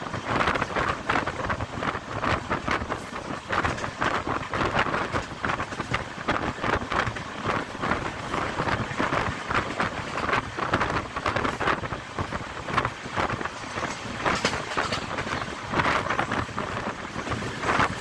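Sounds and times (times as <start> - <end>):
train wheels rattling: 0.0 - 18.0
wind buffeting microphone: 0.0 - 18.0.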